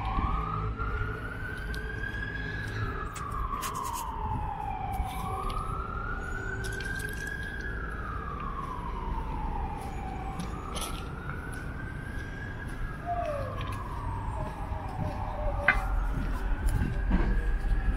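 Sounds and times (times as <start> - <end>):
emergency siren wailing: 0.0 - 17.9.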